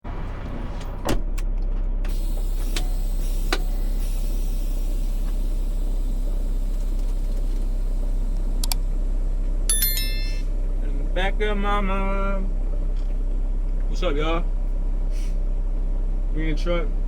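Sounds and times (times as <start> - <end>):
vehicle engine rumble inside cab: 0.0 - 17.0.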